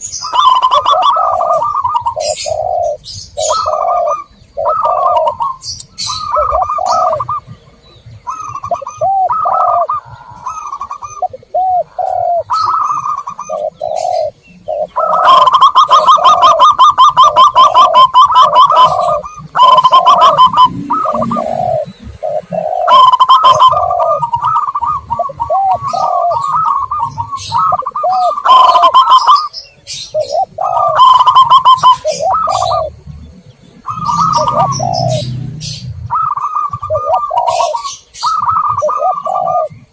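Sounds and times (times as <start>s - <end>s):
doves cooing: 0.0s - 39.9s
rapid dove notes: 0.0s - 39.9s.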